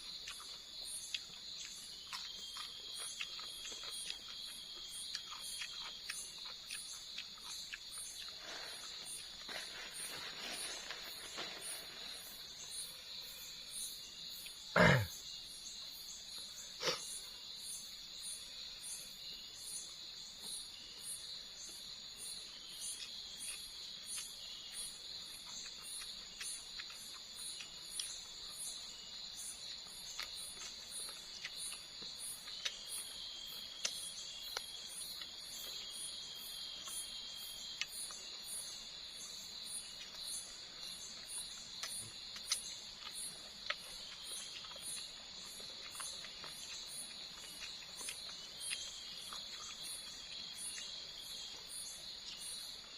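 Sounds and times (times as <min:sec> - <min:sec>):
fast pulsing insect chirp: 0:00.0 - 0:52.9
night insects droning: 0:00.0 - 0:52.9.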